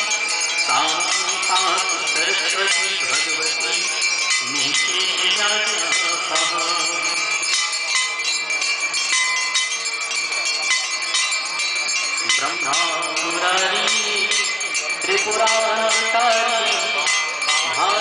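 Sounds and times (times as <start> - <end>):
brass hand bells ringing: 0.0 - 18.0.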